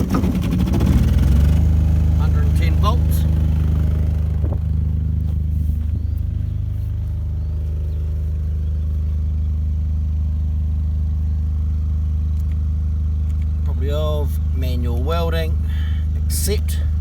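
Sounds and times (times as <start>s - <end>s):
portable generator running: 0.0s - 17.0s.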